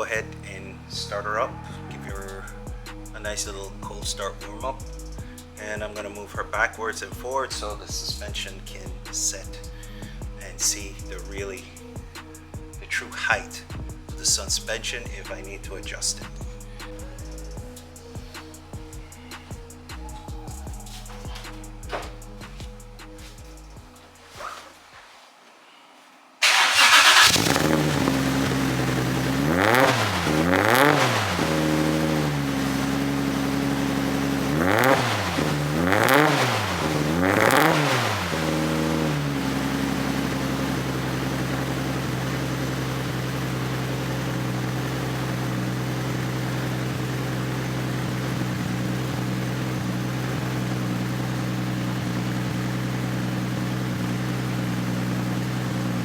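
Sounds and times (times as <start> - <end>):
car engine revving and idling: 0.0 - 24.0, 26.4 - 56.0.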